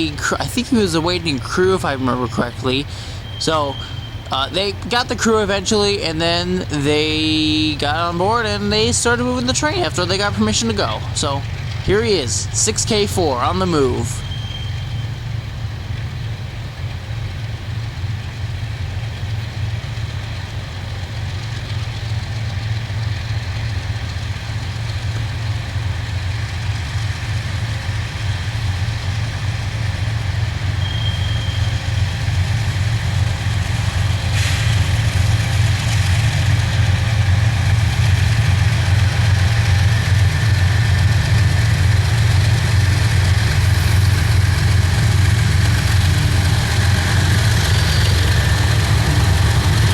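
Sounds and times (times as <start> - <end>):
locomotive engine drone: 0.0 - 49.9.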